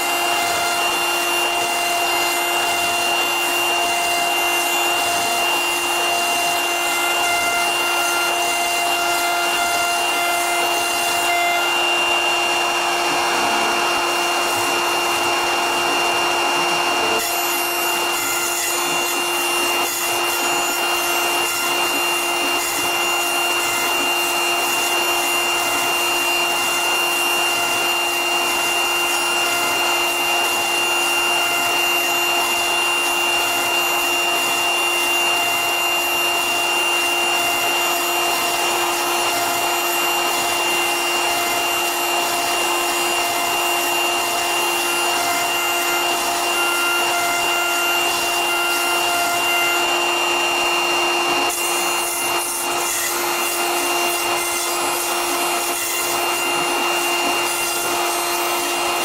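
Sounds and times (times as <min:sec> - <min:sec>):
cutter scraping foam: 0:00.0 - 0:59.0
router spindle whine: 0:00.0 - 0:59.0.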